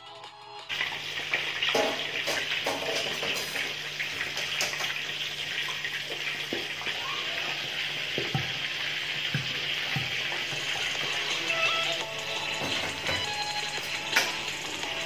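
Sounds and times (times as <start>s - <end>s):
meat sizzling in hot oil: 0.7s - 15.0s.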